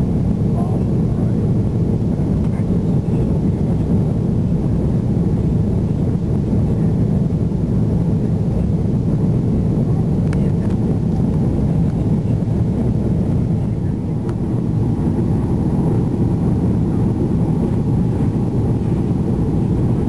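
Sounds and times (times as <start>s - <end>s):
jet engines rumbling: 0.0s - 20.0s
rushing airflow: 0.0s - 20.0s.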